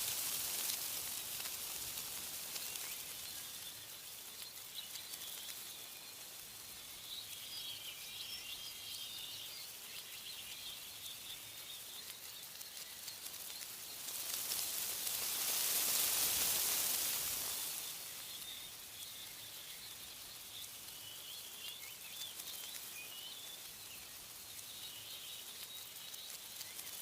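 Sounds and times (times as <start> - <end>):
wind rushing through leaves: 0.0 - 27.0.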